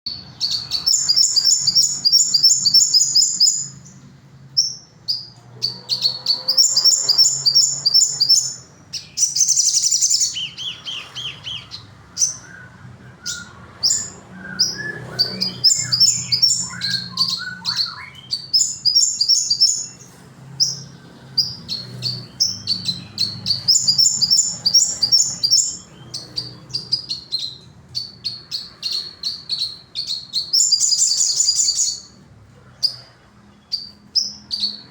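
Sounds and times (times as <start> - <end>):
songbird trilling: 0.1 - 32.2, 33.7 - 34.9
bird chirps: 0.1 - 34.9.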